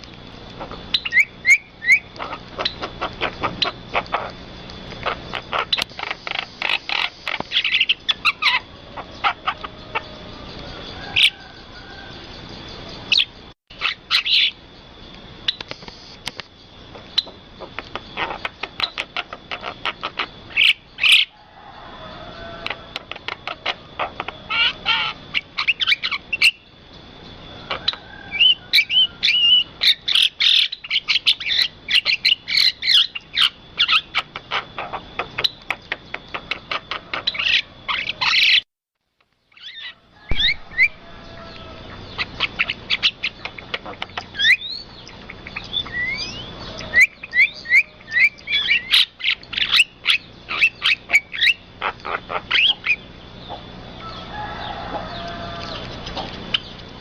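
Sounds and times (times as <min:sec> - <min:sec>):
birds chirping and whistling: 0:00.0 - 0:14.7, 0:16.6 - 0:38.7, 0:39.5 - 0:57.0.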